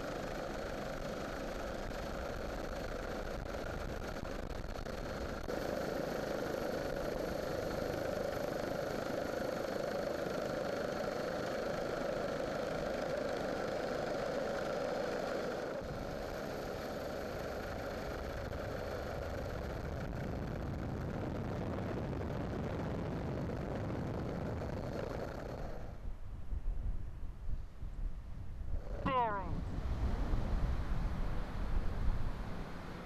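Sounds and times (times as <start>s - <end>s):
engine drone: 0.0s - 26.5s, 28.5s - 33.0s.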